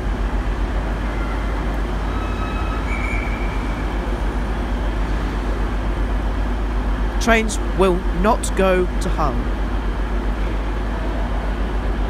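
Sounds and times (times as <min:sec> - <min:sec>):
diesel train rumble: 0:00.0 - 0:12.0
faint high whine: 0:00.0 - 0:12.0.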